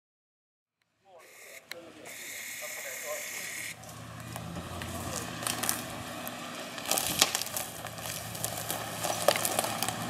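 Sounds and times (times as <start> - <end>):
tyres crackling over twigs: 1.2 - 10.0
pickup engine running low: 1.8 - 10.0.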